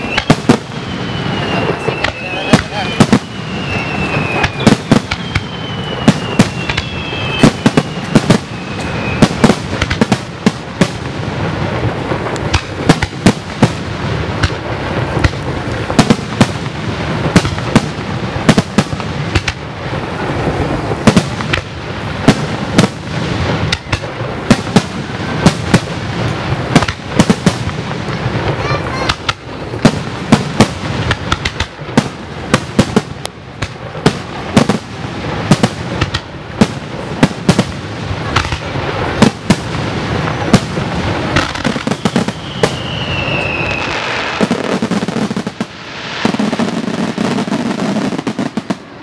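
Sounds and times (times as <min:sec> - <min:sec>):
fireworks bursting with sharp bangs: 0:00.0 - 0:49.0
high firework whistles: 0:00.0 - 0:49.0.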